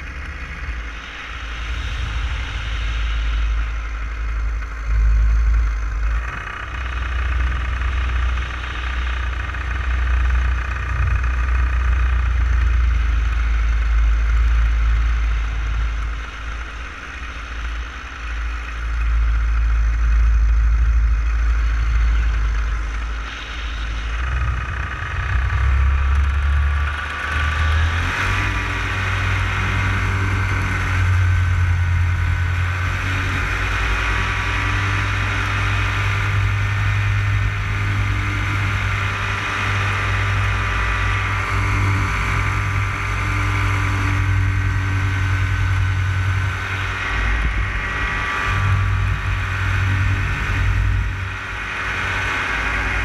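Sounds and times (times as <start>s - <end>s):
paramotor engine and propeller: 0.0s - 53.0s.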